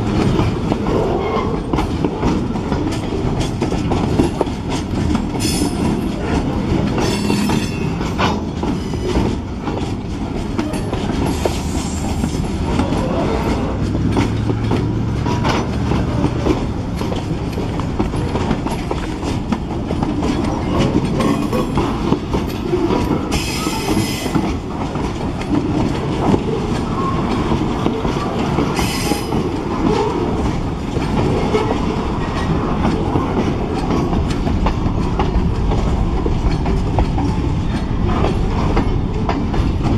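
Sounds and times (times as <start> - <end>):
clickety-clack over rail joints: 0.0 - 39.9
freight train wheels rumbling: 0.0 - 39.9.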